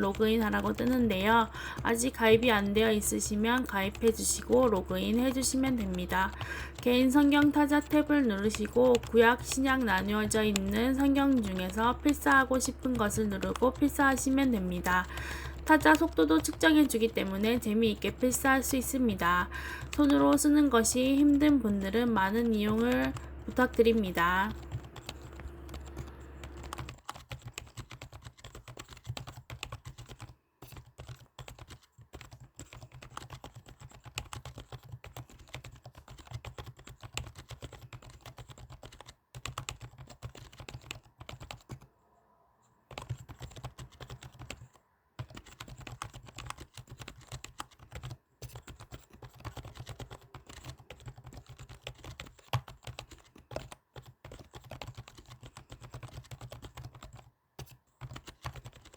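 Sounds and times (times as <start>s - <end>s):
fast typing on keyboard: 0.0s - 41.9s, 42.9s - 58.9s.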